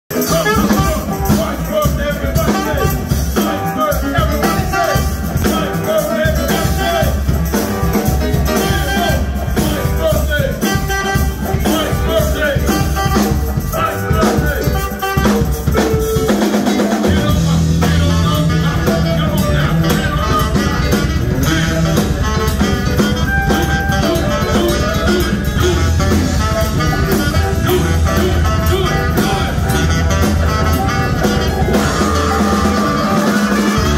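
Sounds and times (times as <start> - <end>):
live band playing amplified music: 0.1 - 33.9
steady bass groove: 0.1 - 33.9.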